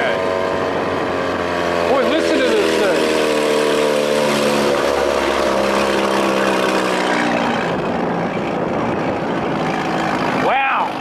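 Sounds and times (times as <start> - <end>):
outboard motor running hard: 0.0 - 11.0
water noise: 0.0 - 11.0
wind noise: 0.0 - 11.0.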